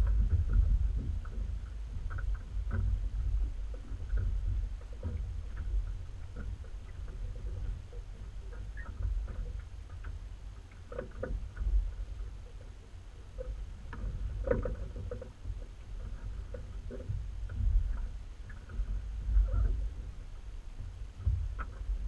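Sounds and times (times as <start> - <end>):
light rattles and clicks: 0.0 - 22.0.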